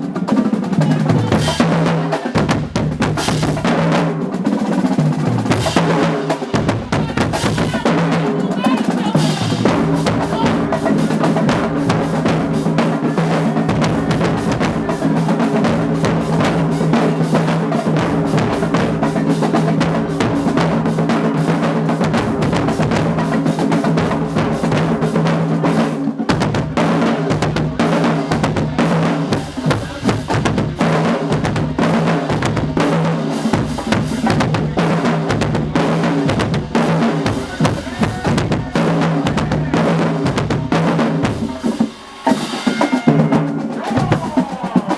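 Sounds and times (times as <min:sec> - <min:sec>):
drumline playing cadence: 0:00.0 - 0:44.9.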